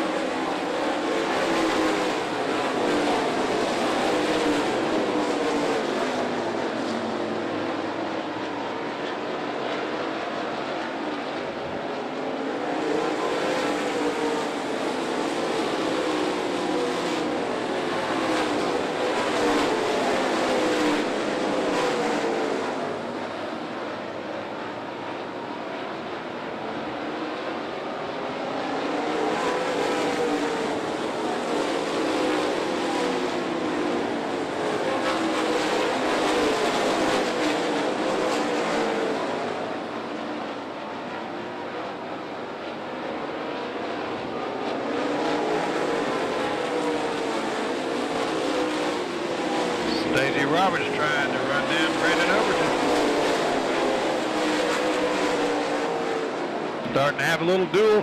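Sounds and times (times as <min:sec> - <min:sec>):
race car engines passing: 0:00.0 - 0:41.2, 0:43.0 - 0:58.0.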